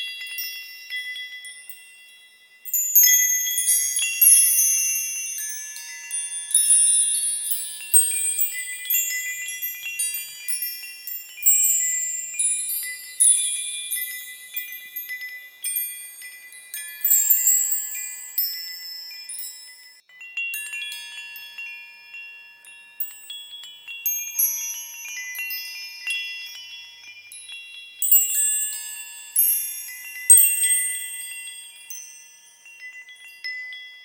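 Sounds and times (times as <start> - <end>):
high-pitched bells chiming: 0.0 - 34.0.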